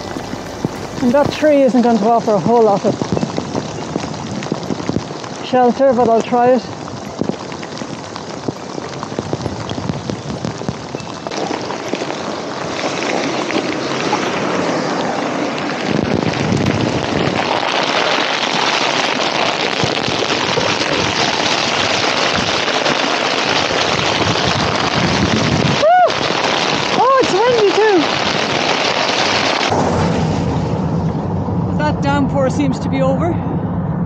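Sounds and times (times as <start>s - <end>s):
rain striking a foam mat: 0.0s - 29.8s.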